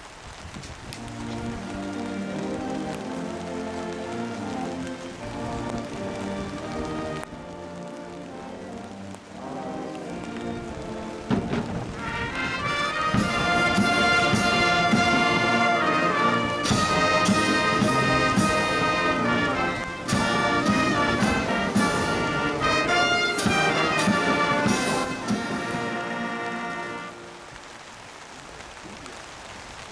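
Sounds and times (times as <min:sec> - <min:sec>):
brass band playing chords: 0:01.0 - 0:27.6.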